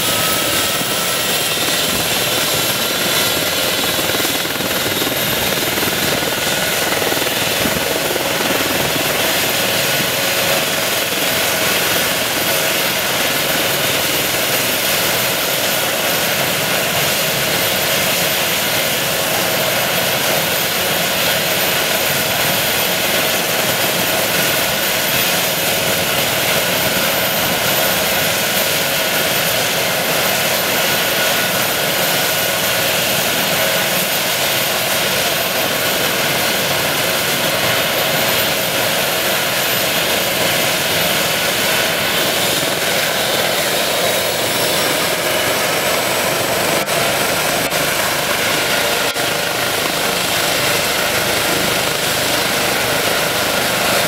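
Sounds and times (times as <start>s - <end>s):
helicopter rotor rush: 0.0s - 54.0s
helicopter turbine whine: 0.0s - 54.0s.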